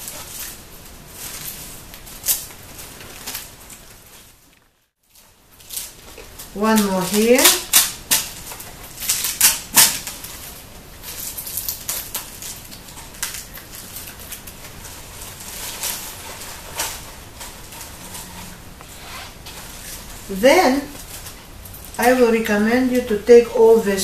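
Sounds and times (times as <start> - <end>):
artificial sprigs rustling and clicking: 0.0 - 24.0.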